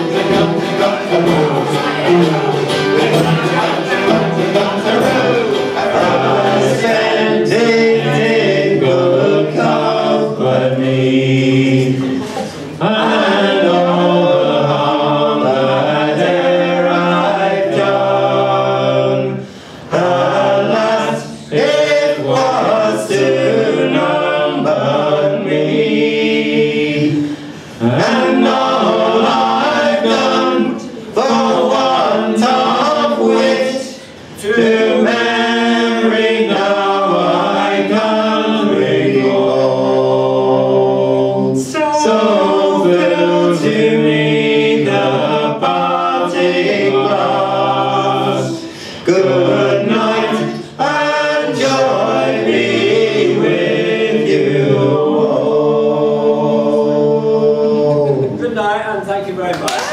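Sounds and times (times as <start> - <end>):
group singing in harmony: 0.0 - 58.4.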